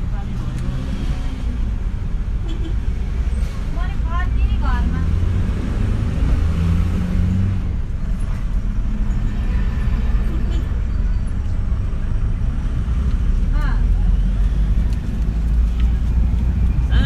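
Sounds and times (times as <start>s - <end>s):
road noise: 0.0s - 17.0s
vehicle engine rumble: 0.0s - 17.0s.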